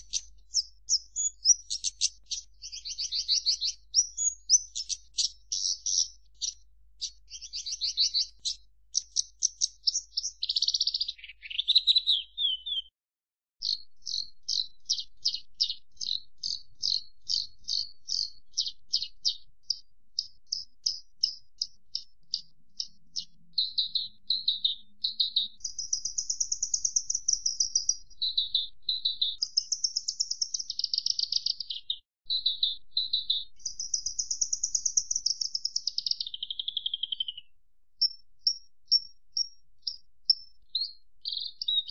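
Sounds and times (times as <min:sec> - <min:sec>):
lark singing: 0:00.0 - 0:12.9, 0:13.6 - 0:41.9.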